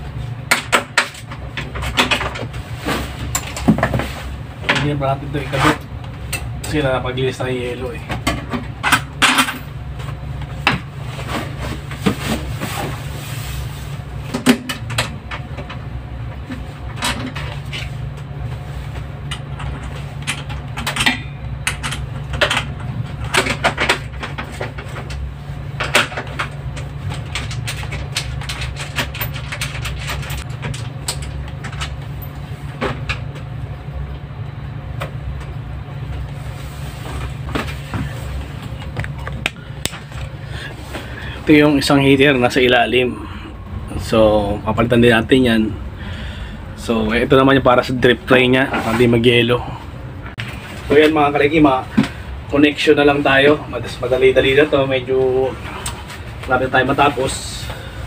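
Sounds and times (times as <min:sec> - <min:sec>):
low machinery hum: 0:00.0 - 0:58.0.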